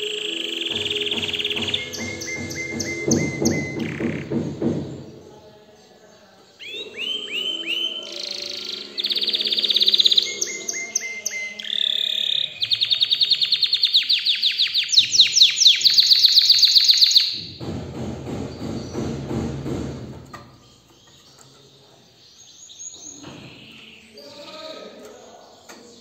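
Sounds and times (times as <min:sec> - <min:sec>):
canary singing with trills: 0:00.0 - 0:17.7, 0:20.3 - 0:26.0.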